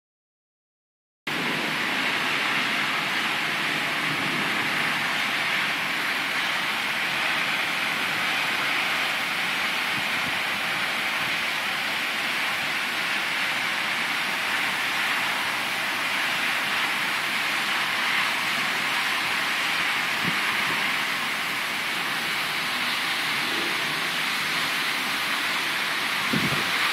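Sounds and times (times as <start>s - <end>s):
heavy rain hissing: 1.3s - 26.9s.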